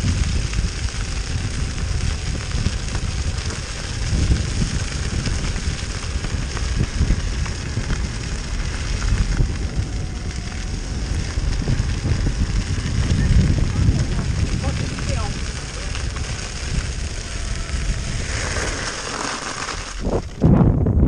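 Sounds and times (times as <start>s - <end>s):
tyres crackling over gravel: 0.0s - 20.5s
wind rumble on microphone: 0.0s - 21.0s.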